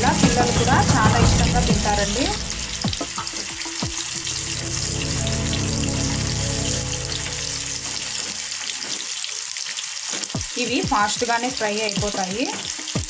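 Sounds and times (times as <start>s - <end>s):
plantain sizzling in hot oil: 0.0s - 13.0s.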